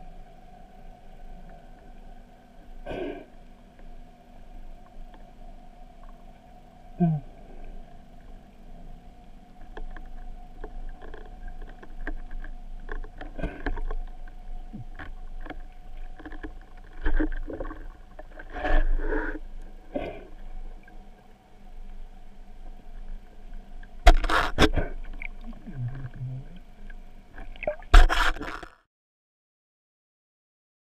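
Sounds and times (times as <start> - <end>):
faint underwater hum: 0.0 - 28.7.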